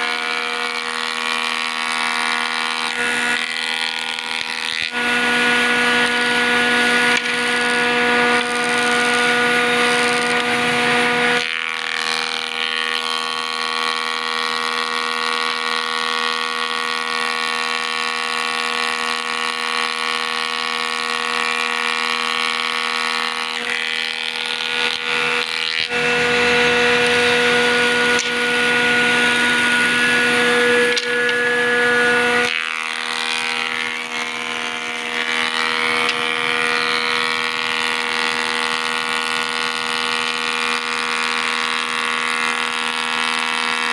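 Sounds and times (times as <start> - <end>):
cutter shaping wood: 0.0 - 43.9
jointer machine humming: 0.0 - 43.9.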